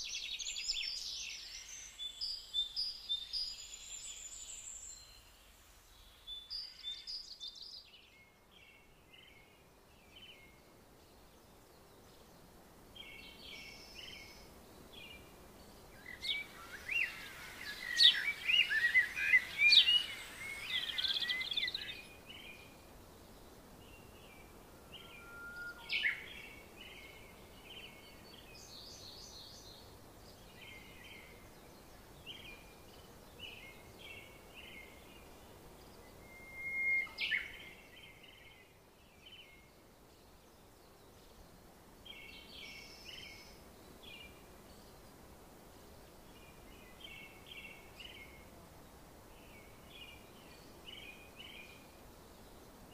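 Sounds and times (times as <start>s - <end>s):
small birds chirping and singing: 0.0s - 45.3s, 46.2s - 48.4s, 49.2s - 52.9s
faint outdoor background noise: 0.0s - 52.9s.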